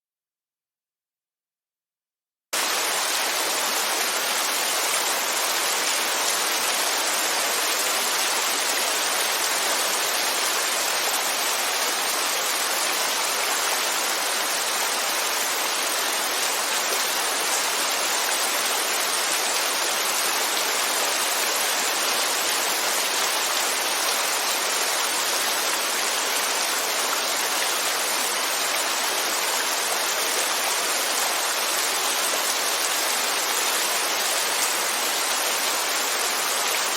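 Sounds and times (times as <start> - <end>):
steady rainfall: 2.6 - 36.9.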